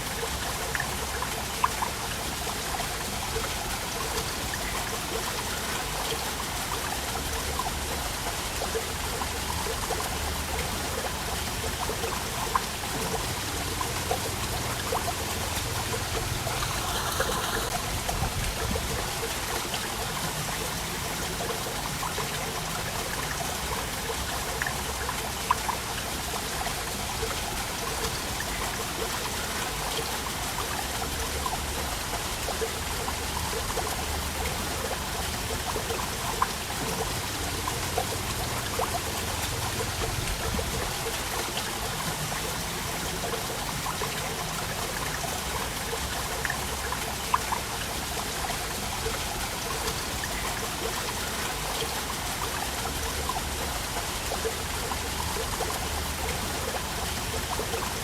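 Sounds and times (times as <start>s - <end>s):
water trickling: 0.0s - 58.0s
waterfall splashing: 0.0s - 58.0s.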